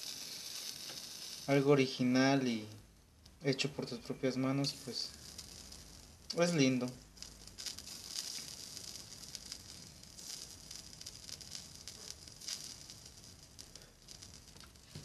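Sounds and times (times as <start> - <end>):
solder sizzling and crackling: 0.0 - 15.0.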